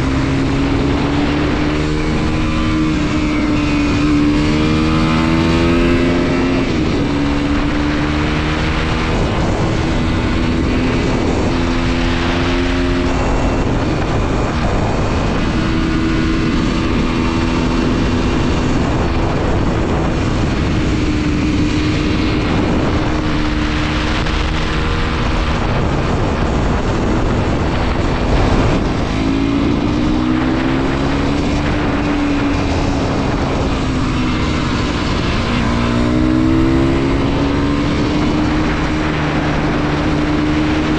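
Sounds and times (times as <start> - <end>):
motorcycle engine revving: 0.0 - 40.9
wind rush on microphone: 0.0 - 40.9.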